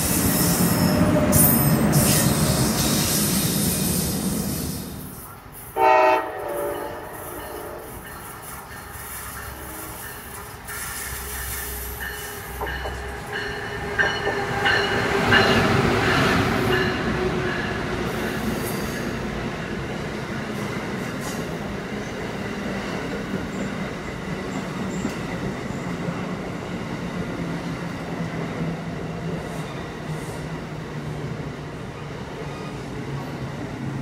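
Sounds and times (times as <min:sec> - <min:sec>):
passenger train passing: 0:00.0 - 0:34.0.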